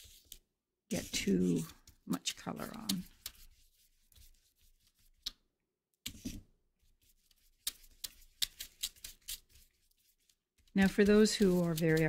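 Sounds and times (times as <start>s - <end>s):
paintbrush scrubbing on paper: 1.0s - 5.3s, 6.2s - 12.0s.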